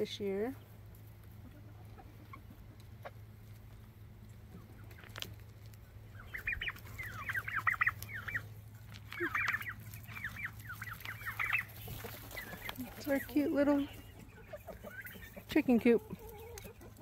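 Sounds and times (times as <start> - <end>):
high chicken peeps: 1.0 - 17.0.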